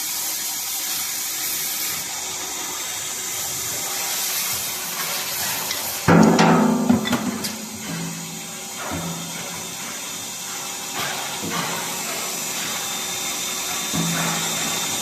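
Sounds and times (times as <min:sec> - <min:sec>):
sanding machine hissing: 0:00.0 - 0:06.2, 0:07.5 - 0:15.0.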